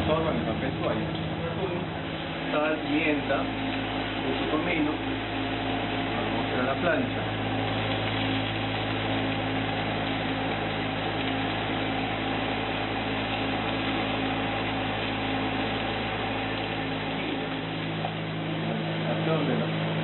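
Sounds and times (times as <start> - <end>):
constant hiss: 0.0 - 20.0
kitchen machinery humming: 0.0 - 20.0.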